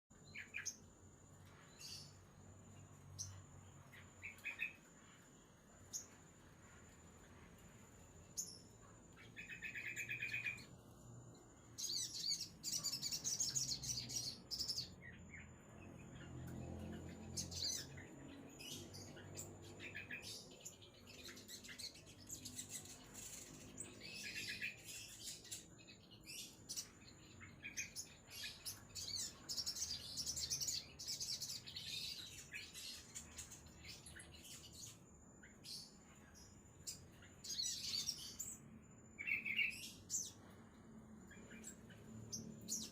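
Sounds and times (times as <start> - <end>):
songbird chirping and singing: 0.0 - 42.9.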